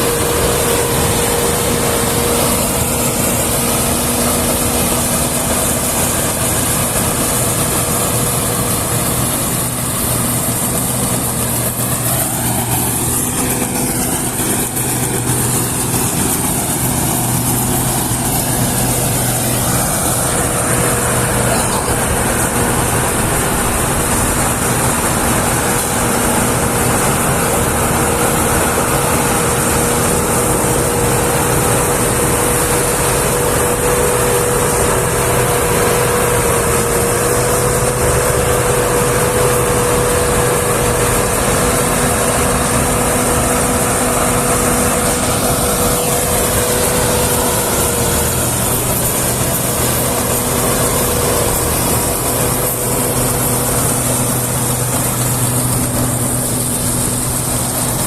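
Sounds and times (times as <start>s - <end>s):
combine harvester engine drone: 0.0s - 58.0s
high whine: 0.0s - 58.0s.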